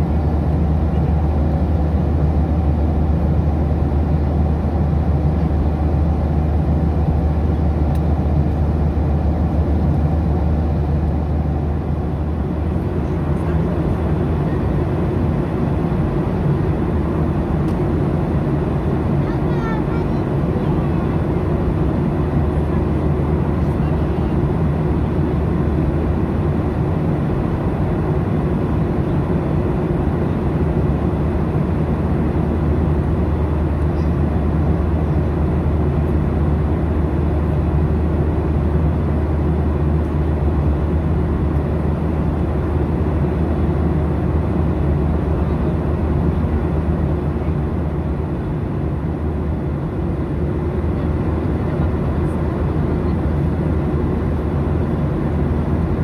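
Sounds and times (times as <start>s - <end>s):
jet airliner cabin drone: 0.0s - 56.0s.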